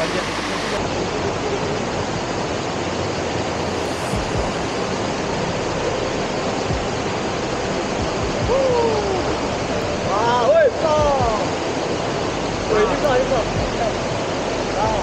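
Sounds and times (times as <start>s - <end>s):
stream cascade rushing: 0.0s - 15.0s.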